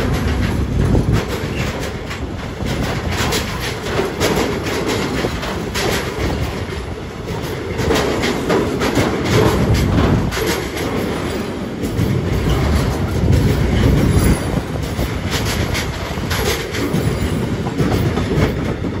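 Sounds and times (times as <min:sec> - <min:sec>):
train wheels rumbling and clicking: 0:00.0 - 0:19.0.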